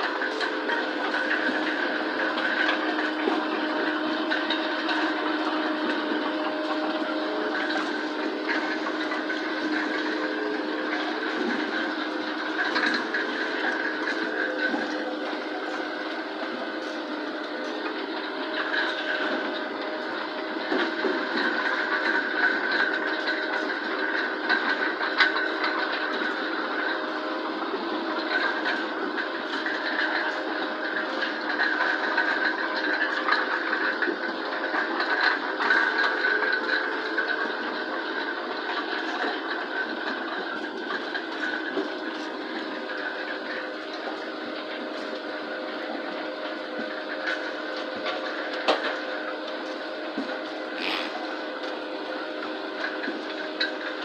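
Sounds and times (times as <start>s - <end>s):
loader machinery humming: 0.0s - 54.0s.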